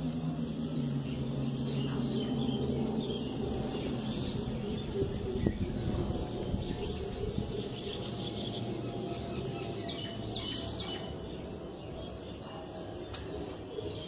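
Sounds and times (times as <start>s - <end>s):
low background rumble: 0.0s - 14.0s
small birds chirping: 0.0s - 14.0s.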